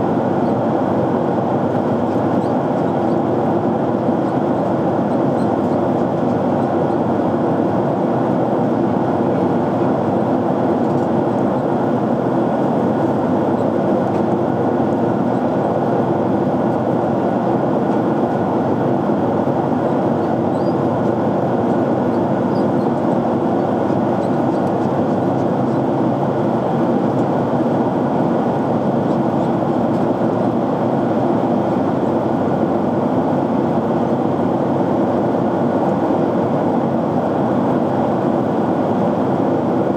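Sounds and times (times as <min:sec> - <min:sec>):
airliner cabin noise: 0:00.0 - 0:39.9.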